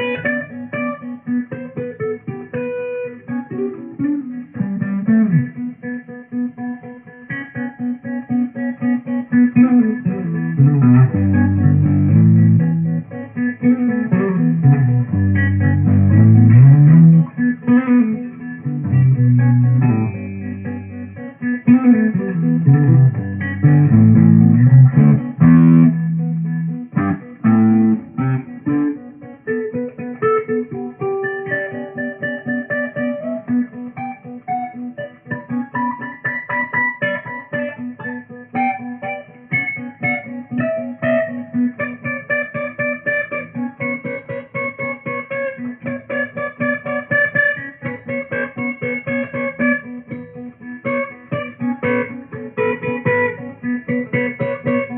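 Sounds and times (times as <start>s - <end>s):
solo guitar improvisation: 0.0s - 54.9s.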